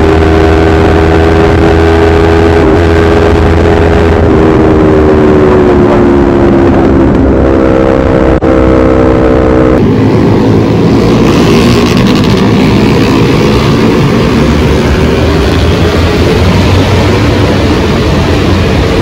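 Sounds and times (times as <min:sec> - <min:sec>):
motorcycle engine at high revs: 0:00.0 - 0:19.0
several motorcycles riding together: 0:00.0 - 0:19.0.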